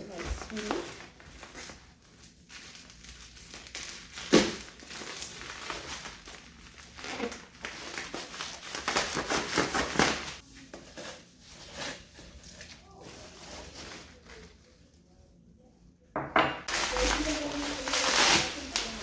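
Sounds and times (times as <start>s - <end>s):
plastic packaging crinkling: 0.0s - 14.8s, 16.7s - 19.0s.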